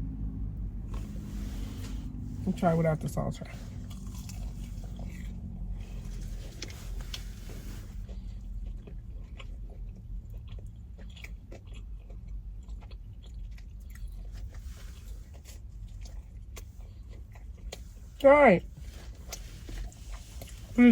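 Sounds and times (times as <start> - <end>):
chewing and biting food: 3.4 - 20.9.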